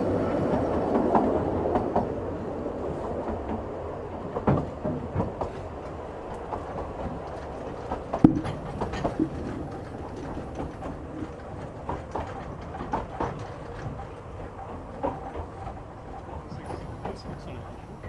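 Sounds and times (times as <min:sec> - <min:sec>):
train clicks and knocks: 0:00.0 - 0:18.0
train rumbling: 0:00.0 - 0:18.0.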